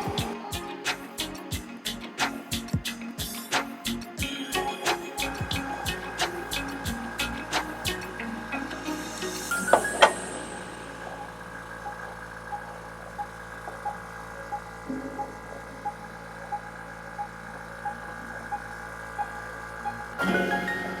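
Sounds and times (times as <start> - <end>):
quiet background music: 0.0 - 21.0.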